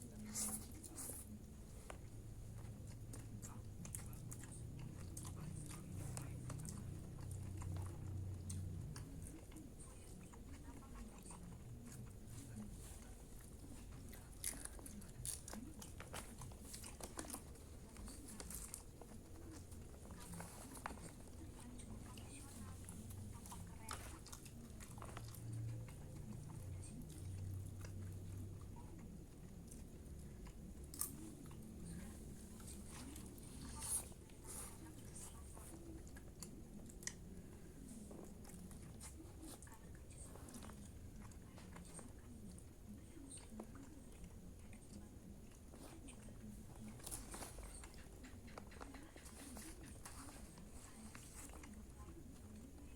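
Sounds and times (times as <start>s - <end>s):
chewing and crunching: 0.0s - 52.9s.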